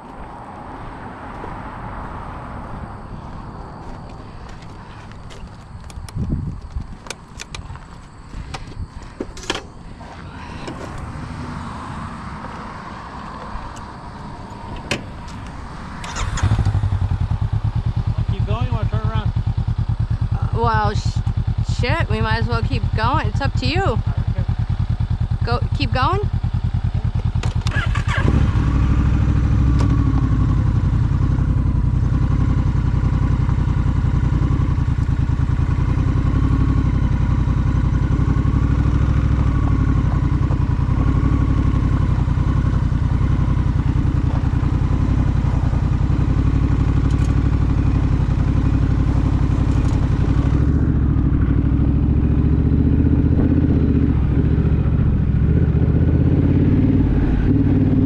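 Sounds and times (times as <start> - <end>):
motorcycle engine running: 3.2 - 58.0.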